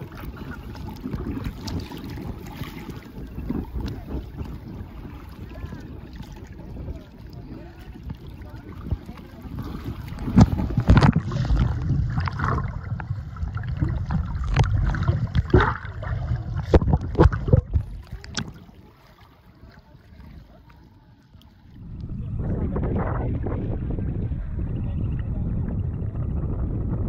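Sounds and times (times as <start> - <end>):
water splashing and sloshing: 0.0 - 23.9
dull low underwater wash: 0.0 - 27.0.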